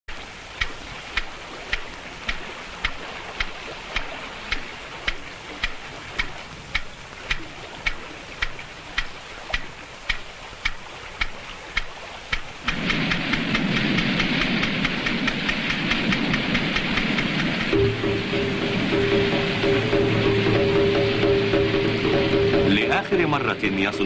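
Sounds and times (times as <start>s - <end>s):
steady hiss: 0.1s - 24.0s
sharp regular ticking: 0.5s - 19.9s.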